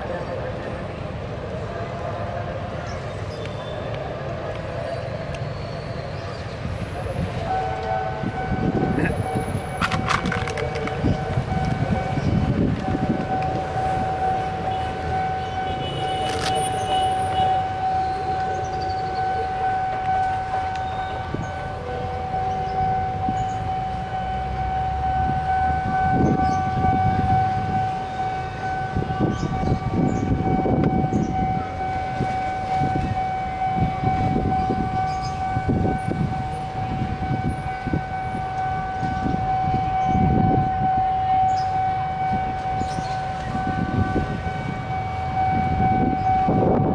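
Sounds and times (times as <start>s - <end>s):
passing vehicle engines: 0.0s - 46.9s
level crossing alarm tone: 7.3s - 46.9s.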